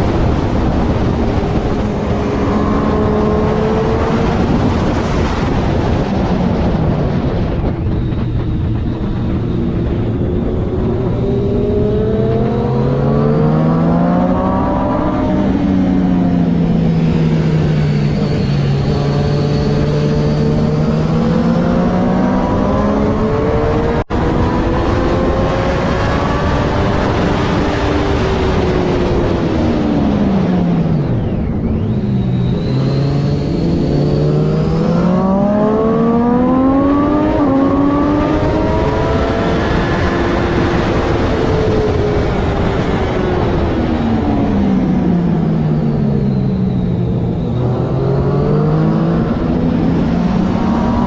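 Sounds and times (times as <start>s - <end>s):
motorcycle engine revving through gears: 0.0s - 51.0s
wind rush: 0.0s - 51.0s.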